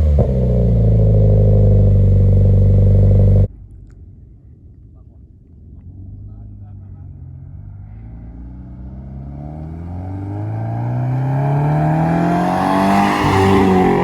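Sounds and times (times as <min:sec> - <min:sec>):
car engine accelerating: 0:00.0 - 0:03.5, 0:05.7 - 0:14.0.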